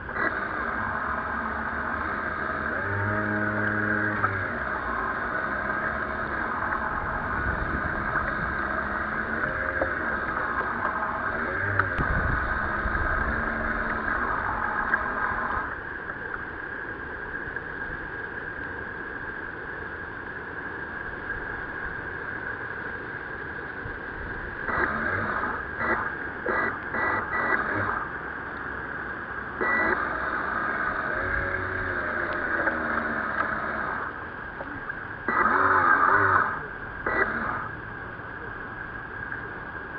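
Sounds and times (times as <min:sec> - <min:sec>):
steady motor whine: 0:00.0 - 0:39.9
water and wind noise: 0:00.0 - 0:39.9.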